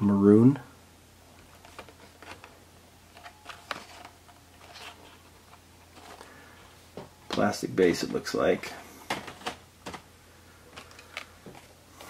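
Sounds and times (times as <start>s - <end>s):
plastic blister card crinkling: 1.3s - 6.8s, 7.4s - 12.0s.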